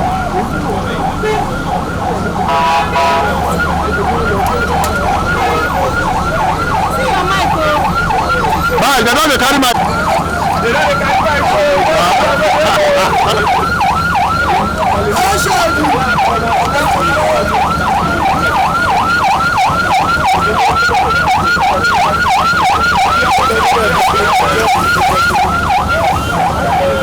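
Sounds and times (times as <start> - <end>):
electronic siren yelping: 0.0 - 27.0.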